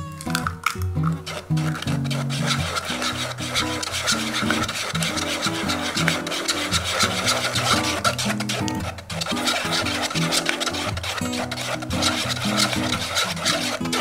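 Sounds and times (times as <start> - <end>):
spatula scraping wire sieve: 1.0 - 14.0.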